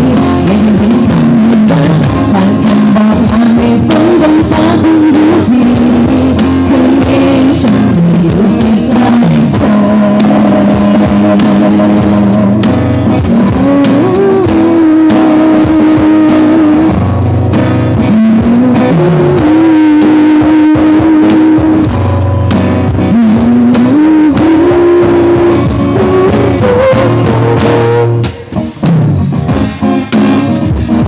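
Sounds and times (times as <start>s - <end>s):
drum kit hits: 0.0s - 31.0s
live rock band playing: 0.0s - 31.0s.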